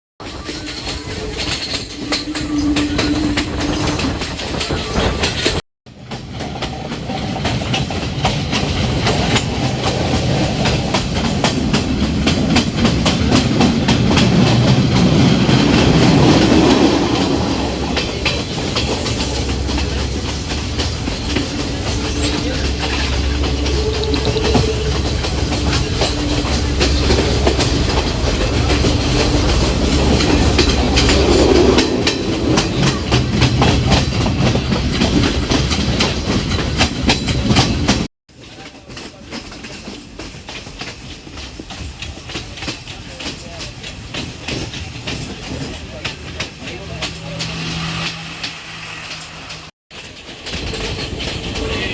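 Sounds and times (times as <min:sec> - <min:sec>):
train rumbling on track: 0:00.2 - 0:51.9
wheels clicking over rails: 0:00.2 - 0:51.9.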